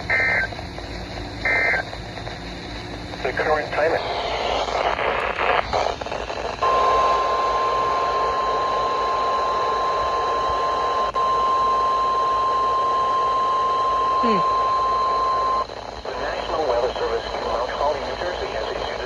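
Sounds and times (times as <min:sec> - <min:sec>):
radio static: 0:00.0 - 0:12.5, 0:14.2 - 0:19.0.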